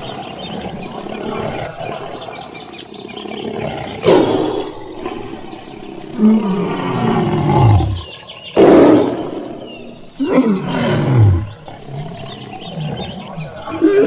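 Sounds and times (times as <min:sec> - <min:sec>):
large animal roaring: 0:00.0 - 0:14.0.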